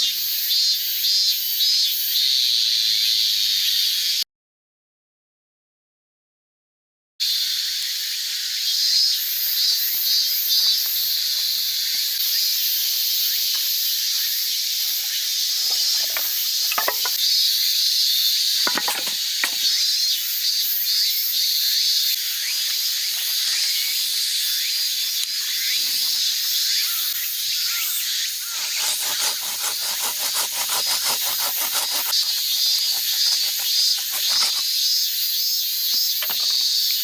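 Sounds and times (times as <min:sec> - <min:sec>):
insects chirping: 0:07.3 - 0:37.0.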